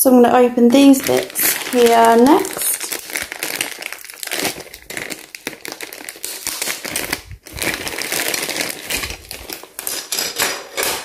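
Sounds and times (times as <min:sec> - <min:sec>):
plastic bag crinkling: 0:00.8 - 0:10.8.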